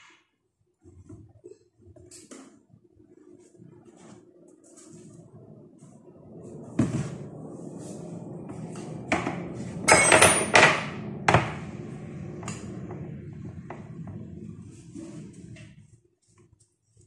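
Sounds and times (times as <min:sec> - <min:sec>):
steady low hum: 0:02.7 - 0:16.5.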